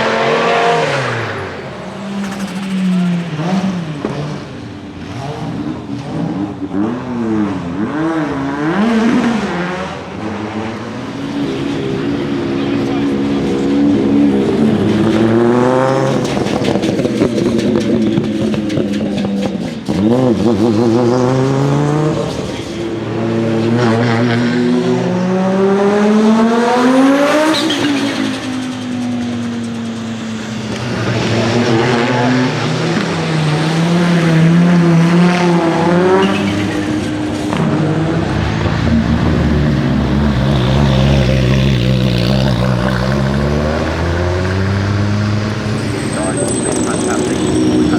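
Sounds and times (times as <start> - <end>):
race car engine accelerating: 0.0 - 47.9.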